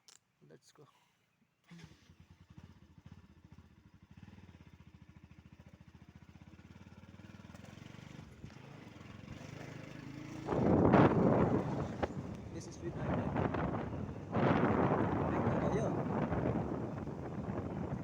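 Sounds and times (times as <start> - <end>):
motorcycle engine running: 2.0 - 18.0.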